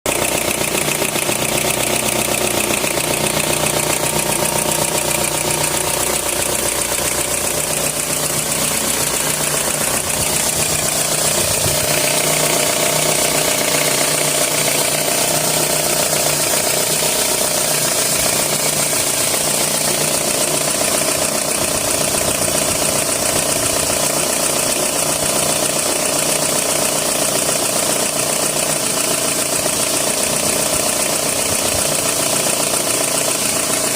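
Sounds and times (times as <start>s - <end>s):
car engine idling: 0.1s - 33.9s
rattle: 0.1s - 33.9s.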